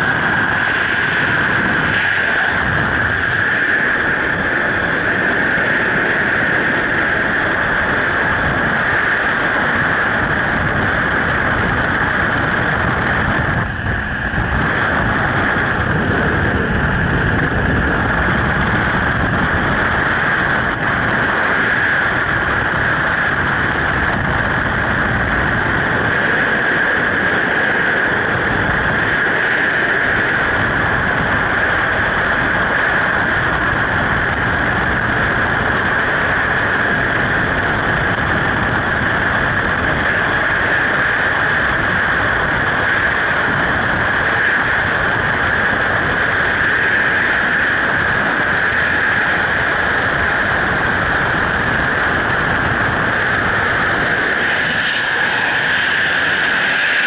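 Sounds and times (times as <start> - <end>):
freefall wind rushing: 0.0 - 57.0.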